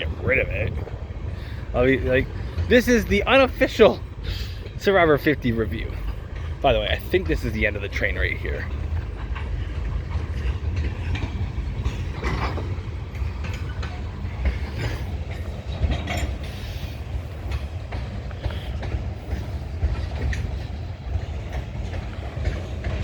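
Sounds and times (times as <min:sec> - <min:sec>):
low train rumble: 0:00.0 - 0:23.0
train wheels clacking on rails: 0:00.0 - 0:23.0.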